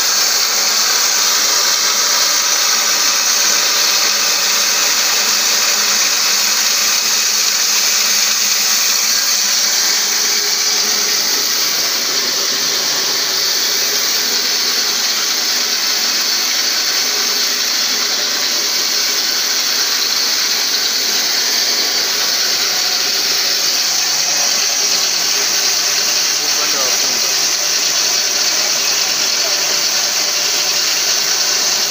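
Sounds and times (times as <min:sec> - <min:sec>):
grain mill machine whirring: 0:00.0 - 0:31.9.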